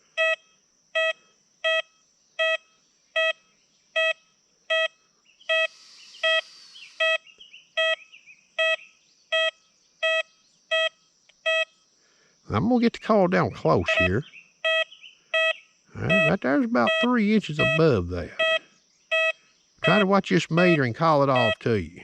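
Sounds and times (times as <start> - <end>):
metal detector beeping: 0.2 - 3.4, 4.0 - 6.4, 7.0 - 7.2, 7.8 - 8.0, 8.6 - 11.7, 13.4 - 21.9
faint high chirps: 2.5 - 11.9, 12.5 - 22.0.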